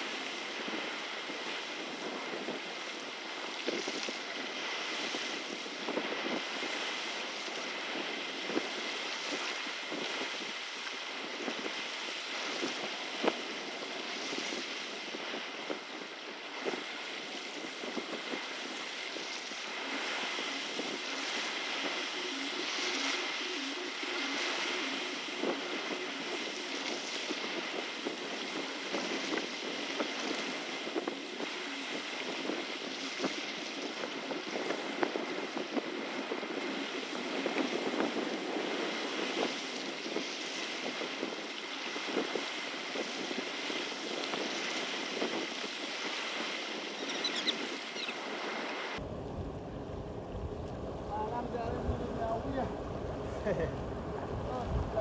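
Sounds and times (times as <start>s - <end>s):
waves rushing: 0.0s - 55.0s
wind on microphone: 0.0s - 55.0s.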